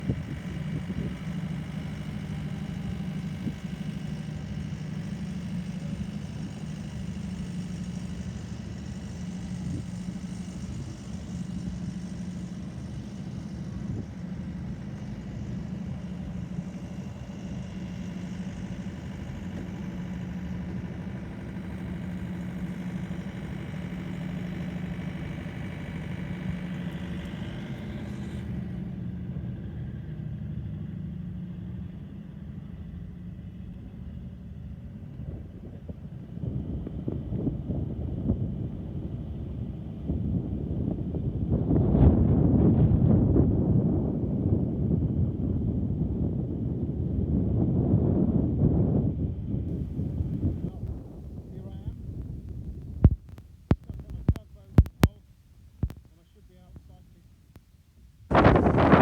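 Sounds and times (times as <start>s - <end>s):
engine low drone: 0.0s - 59.0s.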